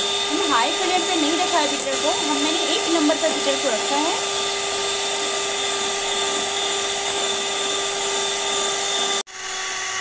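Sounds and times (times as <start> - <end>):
beaters whisking in steel bowl: 0.0 - 9.2
electric hand mixer whirring: 0.0 - 10.0.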